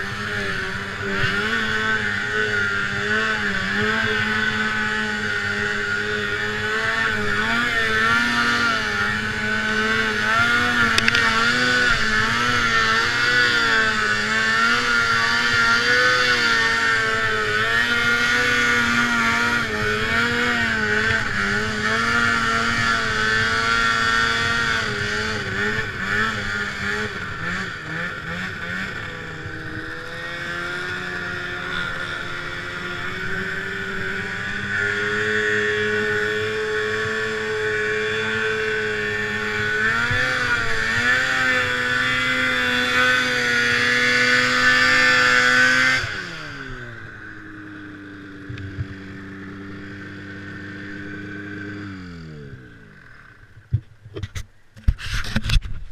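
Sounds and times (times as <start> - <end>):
snowmobile engine under throttle: 0.0 - 55.9.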